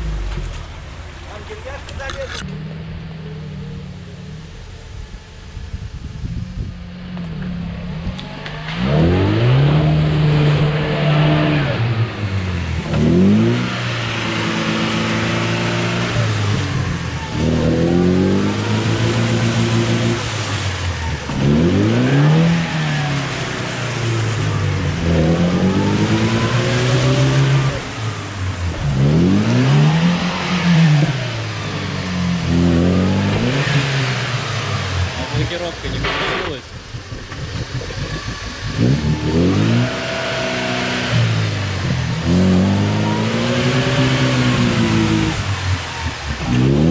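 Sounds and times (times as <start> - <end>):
engine revving hard: 7.9 - 46.9.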